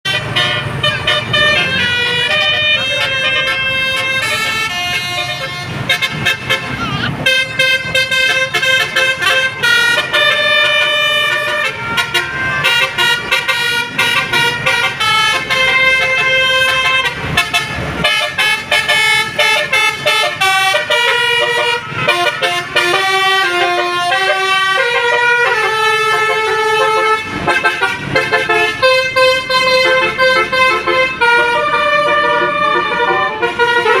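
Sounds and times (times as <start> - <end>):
air horn playing a tune: 0.0 - 34.0.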